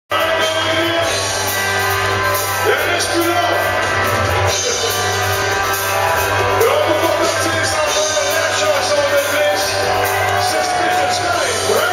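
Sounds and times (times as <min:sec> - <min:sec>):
live rock band playing: 0:00.1 - 0:11.9.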